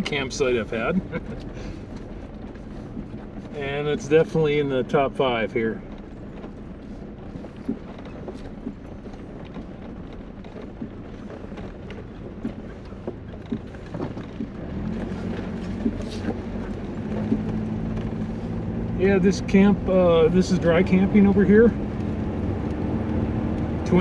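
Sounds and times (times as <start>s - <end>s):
small rattles and knocks: 0.0s - 19.8s
vehicle engine: 0.0s - 24.0s
vehicle road noise rumble: 0.0s - 24.0s.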